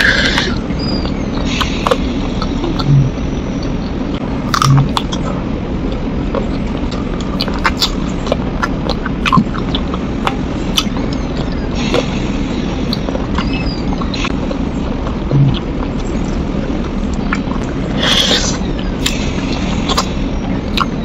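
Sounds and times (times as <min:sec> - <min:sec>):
biting and chewing mouth sounds: 0:00.0 - 0:21.0
steady low hum: 0:00.0 - 0:21.0.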